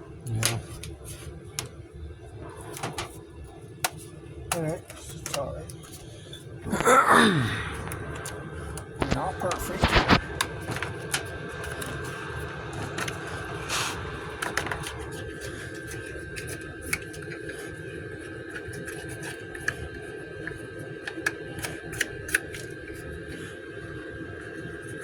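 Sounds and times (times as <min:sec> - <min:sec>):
steady hum with high tone: 0:00.0 - 0:25.0.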